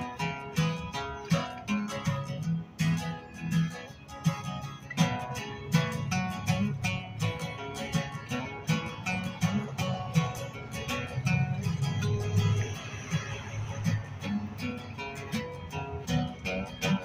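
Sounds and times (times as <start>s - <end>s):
acoustic guitar duet: 0.0s - 17.0s.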